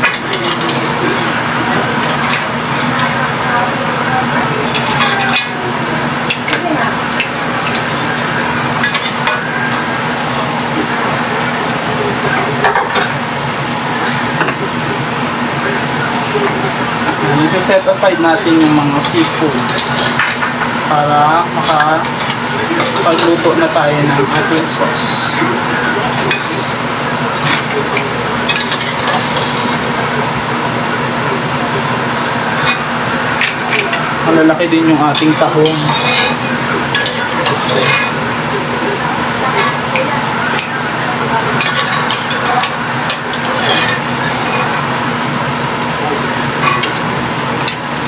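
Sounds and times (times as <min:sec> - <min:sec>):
background hum and hiss: 0:00.0 - 0:48.0.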